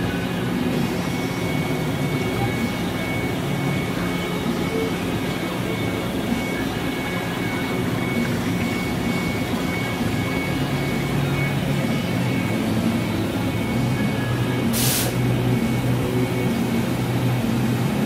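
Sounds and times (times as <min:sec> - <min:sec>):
high whine: 0:00.0 - 0:18.0
machine mechanical hum: 0:00.0 - 0:18.0.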